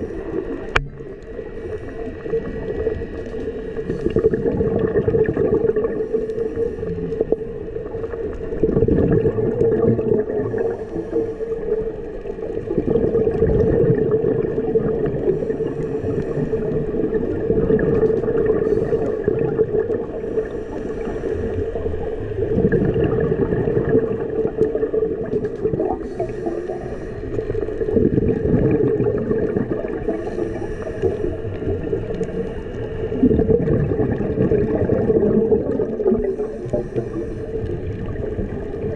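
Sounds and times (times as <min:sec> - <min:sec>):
steady hum: 0:00.0 - 0:38.9
regulator bubbling exhalations: 0:03.8 - 0:38.9.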